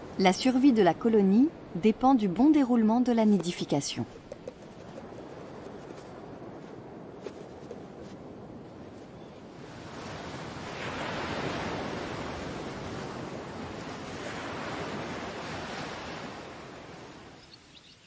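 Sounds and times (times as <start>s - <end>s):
ocean waves washing in: 0.0s - 17.4s.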